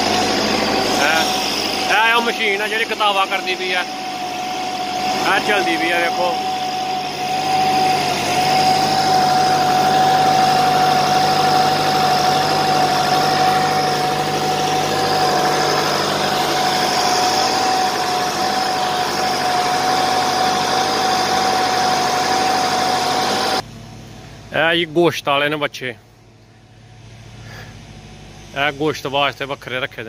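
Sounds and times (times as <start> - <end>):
feed mixer wagon humming and whining: 0.0 - 30.0.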